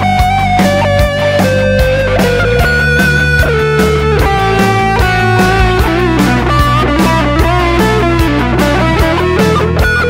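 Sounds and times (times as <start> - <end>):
drums and bass rhythm track: 0.0 - 10.0
electric guitar lead melody: 0.0 - 10.0.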